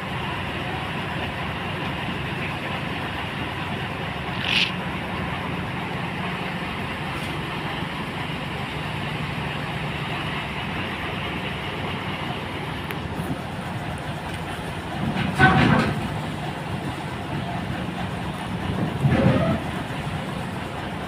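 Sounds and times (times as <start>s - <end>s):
diesel engines idling: 0.0s - 21.0s.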